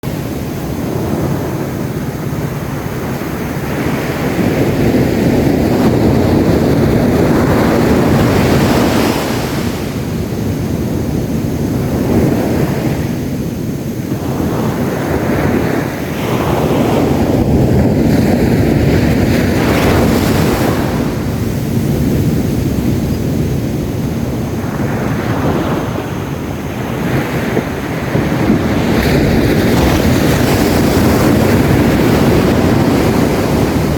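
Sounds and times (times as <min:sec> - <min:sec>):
sea waves breaking on beach: 0:00.0 - 0:33.9
wind rumbling on microphone: 0:00.0 - 0:33.9.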